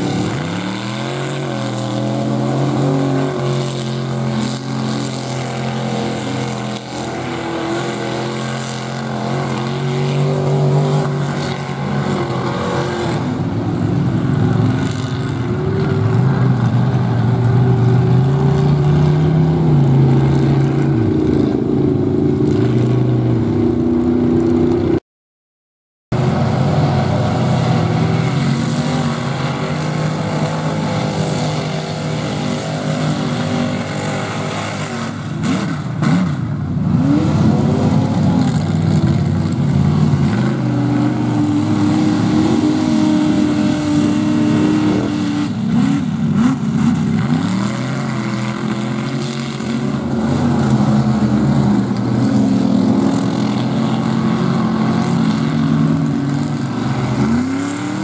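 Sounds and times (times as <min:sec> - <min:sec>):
truck engines revving: 0:00.0 - 0:25.0, 0:26.1 - 0:58.0.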